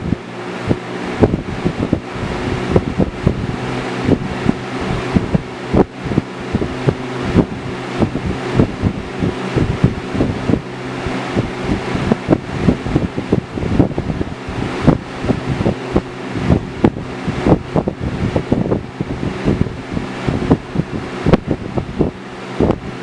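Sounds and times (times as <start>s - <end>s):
airflow buffeting microphone: 0.0s - 23.0s
box fan running: 0.0s - 23.0s.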